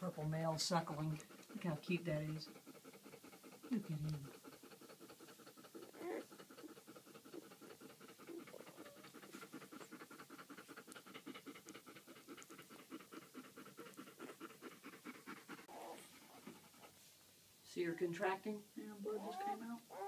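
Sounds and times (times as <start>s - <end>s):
dog panting: 0.0s - 17.3s, 17.9s - 20.0s.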